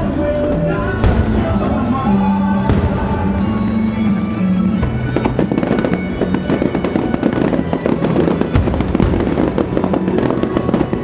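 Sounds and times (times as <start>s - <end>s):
fireworks exploding and crackling: 0.0s - 11.0s
music soundtrack: 0.0s - 11.0s.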